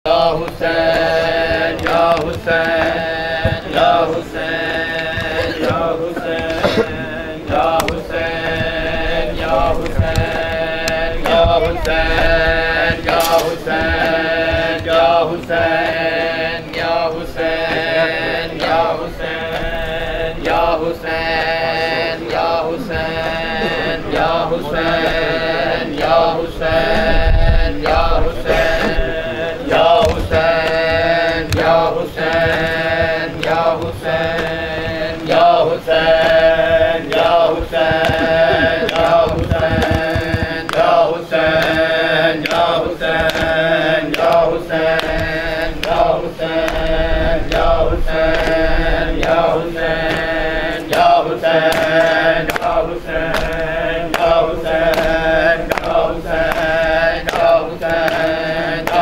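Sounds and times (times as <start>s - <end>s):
hands slapping chests: 0.1s - 16.0s, 20.4s - 27.1s, 27.8s - 46.9s, 48.3s - 48.6s, 49.2s - 59.0s
men chanting together: 0.1s - 59.0s.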